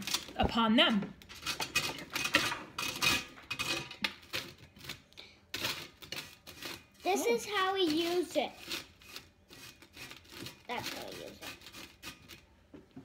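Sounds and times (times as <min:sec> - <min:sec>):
toast scraped on grater: 0:01.3 - 0:12.5.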